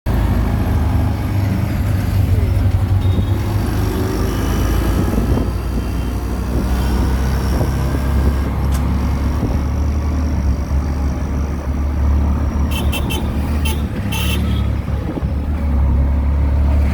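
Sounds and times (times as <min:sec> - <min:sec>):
rickshaw engine humming: 0:00.1 - 0:16.9.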